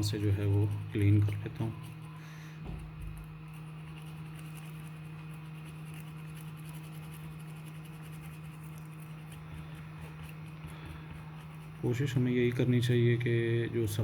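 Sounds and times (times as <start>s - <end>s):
brush scratching circuit board: 0.0s - 2.2s, 2.8s - 14.0s
steady low hum: 0.0s - 14.0s.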